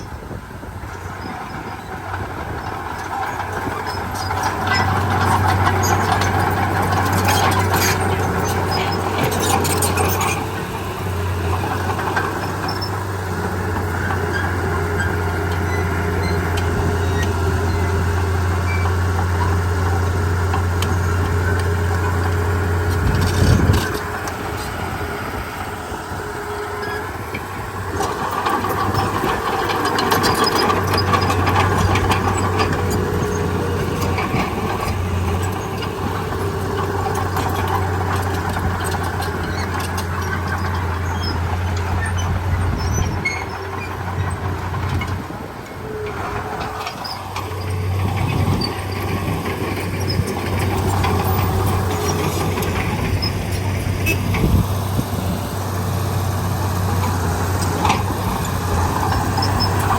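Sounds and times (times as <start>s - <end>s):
bulldozer diesel engine running: 0.0s - 59.9s
metallic clanks from tracks: 1.1s - 59.9s.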